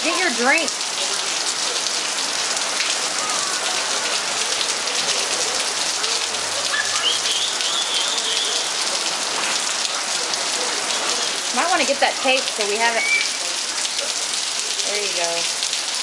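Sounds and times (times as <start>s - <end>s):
rain on hard surfaces: 0.0s - 16.0s.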